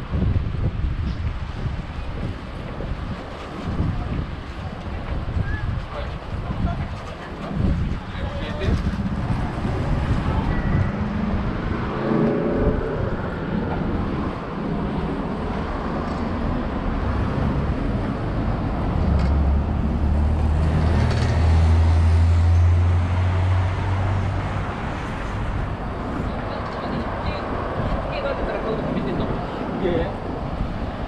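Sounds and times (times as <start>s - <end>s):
street traffic: 0.0s - 31.0s
vehicle engine rumble: 0.0s - 31.0s.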